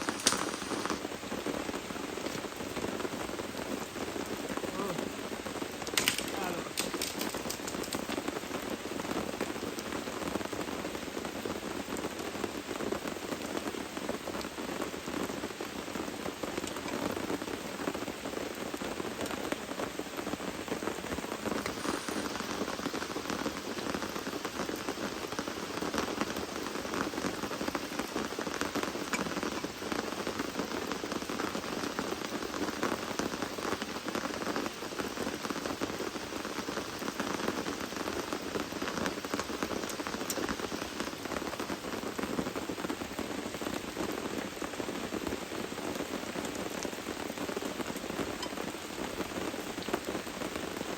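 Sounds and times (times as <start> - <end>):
rain falling: 0.0 - 50.9
raindrops striking close by: 0.0 - 50.9.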